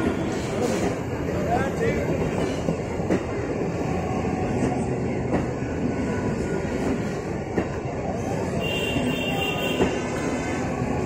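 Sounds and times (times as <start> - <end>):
train wheels running on rails: 0.0 - 11.0.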